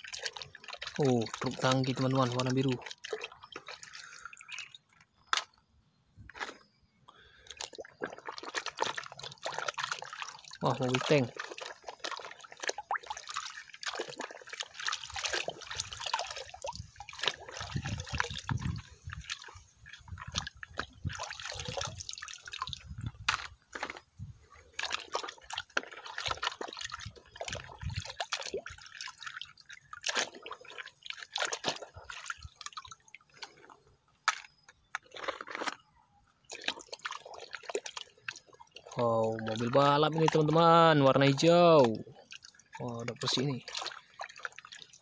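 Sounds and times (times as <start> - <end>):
water splashing and dripping: 0.0 - 5.6, 6.3 - 45.0.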